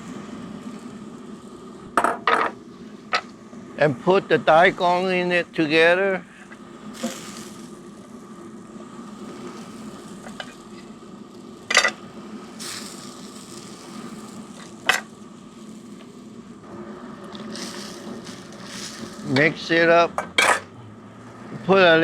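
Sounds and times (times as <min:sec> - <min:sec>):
low steady hum: 0:00.0 - 0:22.0
water boiling in a pot: 0:00.0 - 0:22.0.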